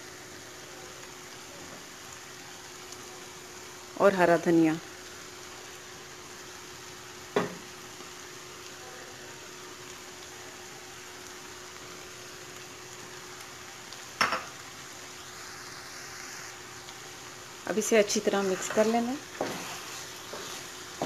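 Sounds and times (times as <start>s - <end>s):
curry sizzling in a pot: 0.0s - 21.0s.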